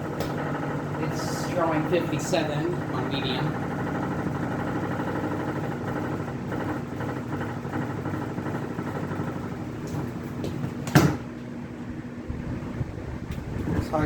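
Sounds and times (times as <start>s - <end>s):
box fan motor hum: 0.0s - 14.0s
fan rattling: 0.0s - 14.0s.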